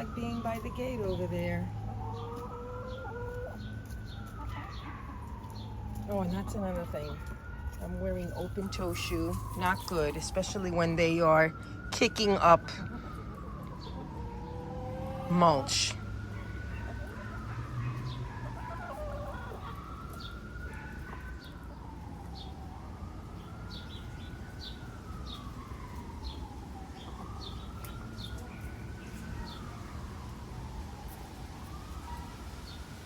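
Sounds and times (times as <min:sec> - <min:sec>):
hens chirping and clucking: 0:00.0 - 0:11.3, 0:12.6 - 0:33.0
siren wailing: 0:00.0 - 0:33.0.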